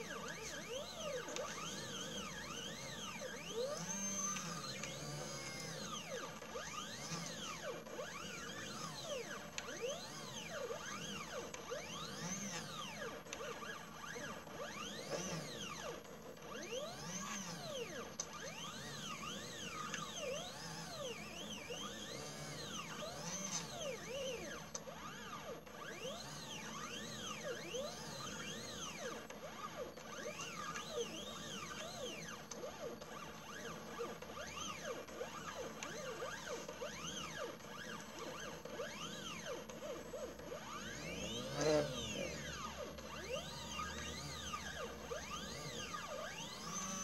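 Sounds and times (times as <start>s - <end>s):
stepper motors whining: 0.0s - 47.0s.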